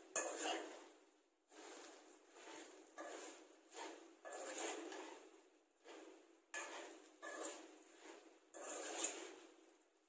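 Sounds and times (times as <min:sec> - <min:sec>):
spoon scraping in pan: 0:00.0 - 0:09.8.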